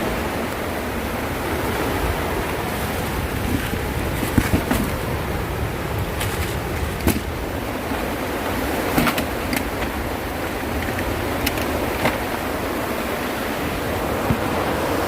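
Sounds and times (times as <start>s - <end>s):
heavy rain downpour: 0.0s - 15.0s
strong wind: 0.0s - 15.0s.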